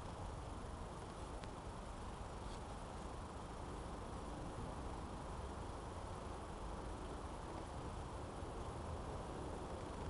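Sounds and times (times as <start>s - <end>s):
woodland hiss: 0.0s - 10.0s.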